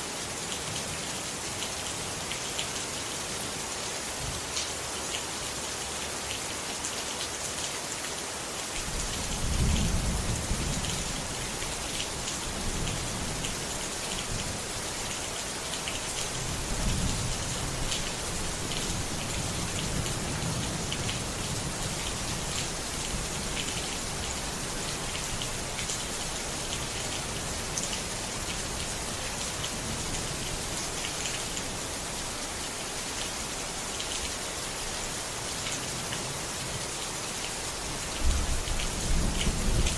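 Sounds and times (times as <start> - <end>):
rain pattering: 4.3 - 39.9.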